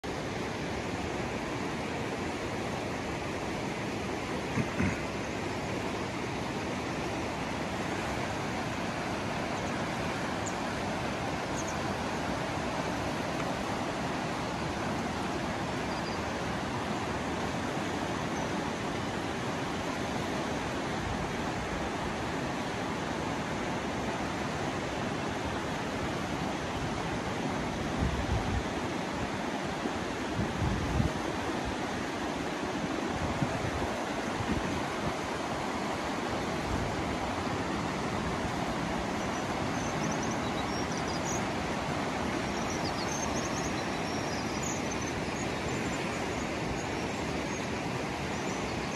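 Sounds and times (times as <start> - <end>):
river rushing over rocks: 0.0 - 48.9.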